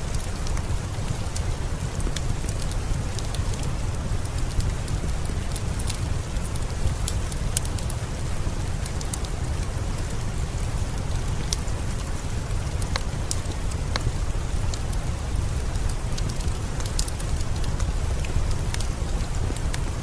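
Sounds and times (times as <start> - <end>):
fireplace crackling: 0.0 - 20.0
steady rain: 0.0 - 20.0.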